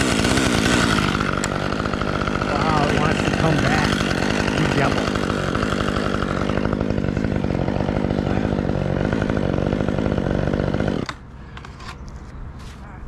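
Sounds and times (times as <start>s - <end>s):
chainsaw engine running: 0.0s - 12.0s.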